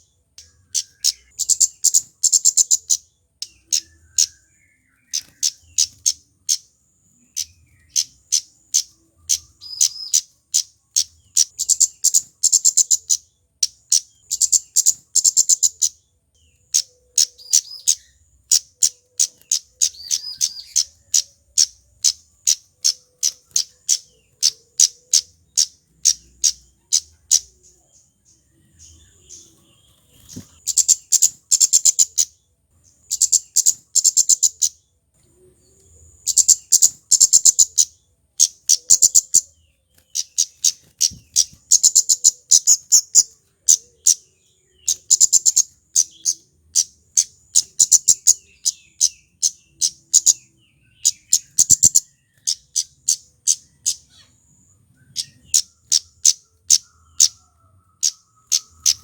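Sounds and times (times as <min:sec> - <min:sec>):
bird calling high chips: 0:00.0 - 0:27.8, 0:28.8 - 0:34.9, 0:35.7 - 0:59.0.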